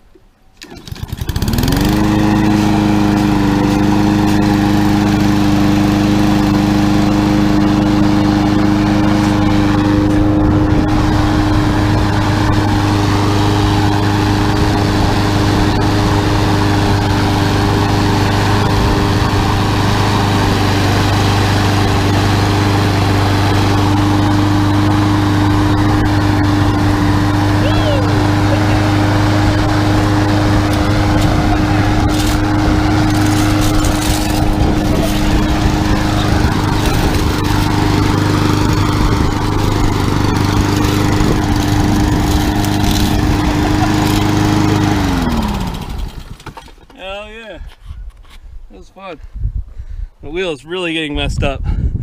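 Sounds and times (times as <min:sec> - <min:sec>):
riding lawn mower engine: 0:00.5 - 0:48.4.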